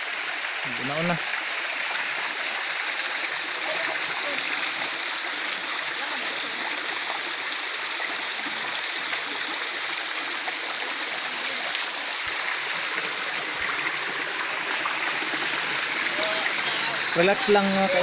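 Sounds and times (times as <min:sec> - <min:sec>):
flowing water: 0:00.0 - 0:18.0.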